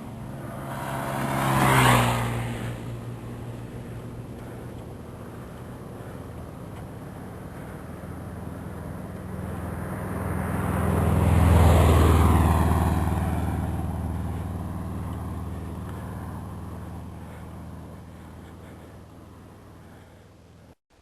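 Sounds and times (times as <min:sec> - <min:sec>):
vehicle passing by: 0:00.0 - 0:20.8.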